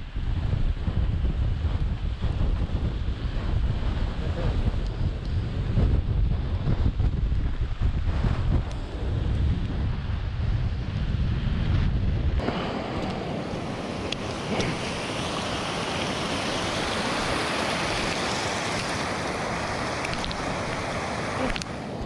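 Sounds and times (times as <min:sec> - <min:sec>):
wind blasting microphone: 0:00.0 - 0:22.0.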